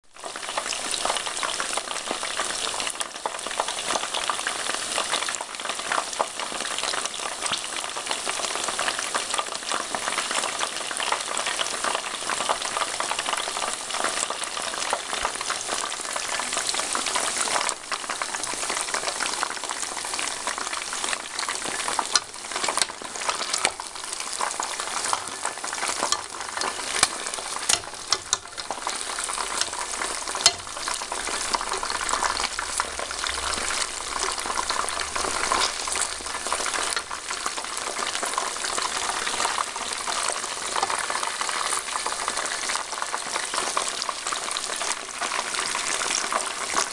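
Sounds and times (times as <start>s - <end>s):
deep-frying sizzle with pops: 0.0s - 46.9s.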